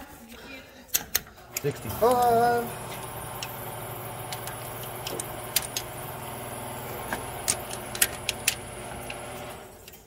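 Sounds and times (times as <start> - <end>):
air compressor humming: 1.5 - 10.0.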